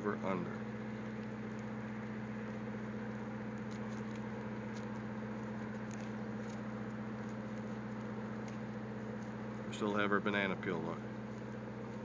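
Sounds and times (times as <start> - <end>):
low machine hum: 0.0 - 12.0
rope rustling by hand: 0.8 - 9.9, 11.0 - 12.0.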